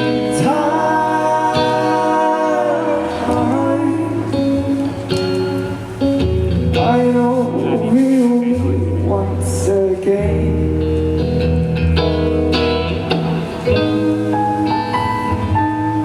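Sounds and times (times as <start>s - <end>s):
band playing pop music: 0.0s - 16.0s
bass notes: 0.0s - 16.0s
guitar: 0.0s - 16.0s.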